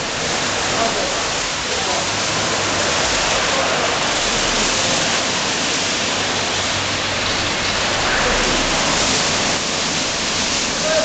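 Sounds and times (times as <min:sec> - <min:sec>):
spraying water: 0:00.0 - 0:11.0.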